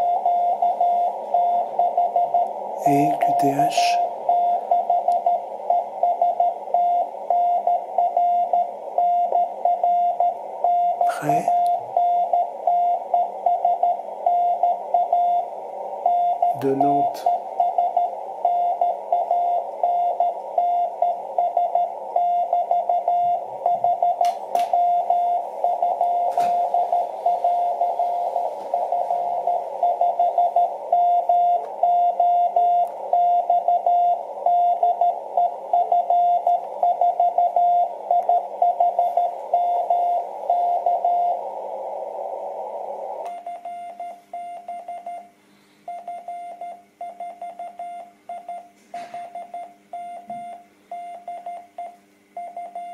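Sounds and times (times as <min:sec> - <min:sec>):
morse code beep tone: 0:00.0 - 0:41.5, 0:43.2 - 0:52.9
receiver hiss: 0:00.0 - 0:52.9.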